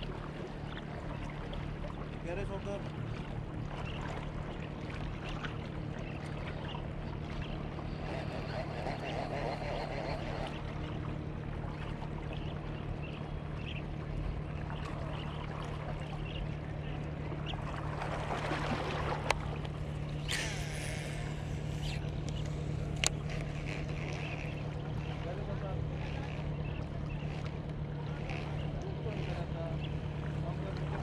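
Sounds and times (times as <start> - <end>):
boat engine drone: 0.0 - 31.0.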